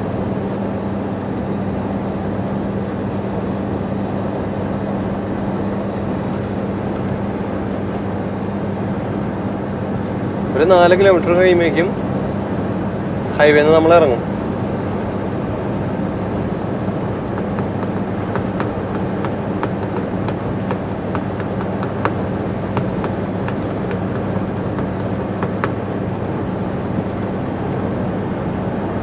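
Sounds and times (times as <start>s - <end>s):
road and tyre noise: 0.0s - 29.0s.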